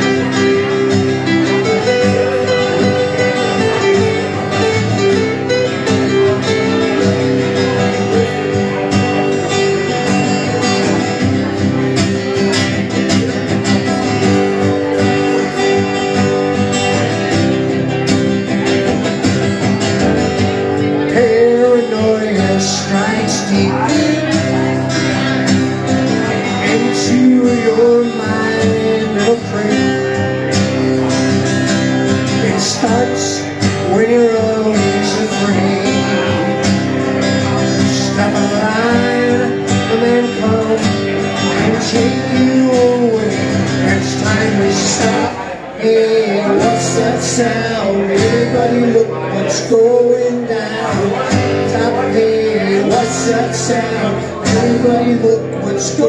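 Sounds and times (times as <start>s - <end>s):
acoustic guitars strumming: 0.0s - 56.0s
wavering guitar melody: 0.0s - 56.0s.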